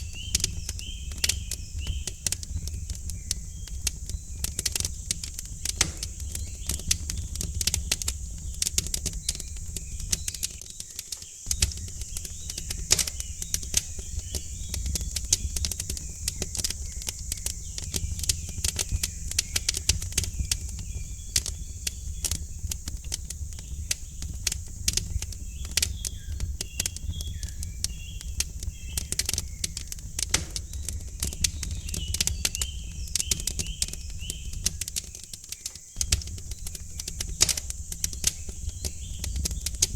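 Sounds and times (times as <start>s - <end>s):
small birds chirping faintly: 0.0s - 39.9s
wood fire crackling and popping: 0.0s - 39.9s.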